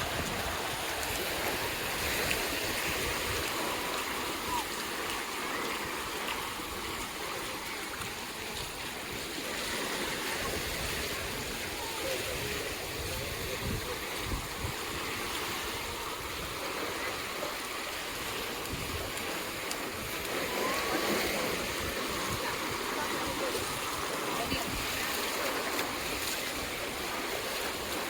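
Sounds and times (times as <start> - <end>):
sea surf on beach: 0.0 - 28.0
wind rumble on microphone: 0.0 - 28.0.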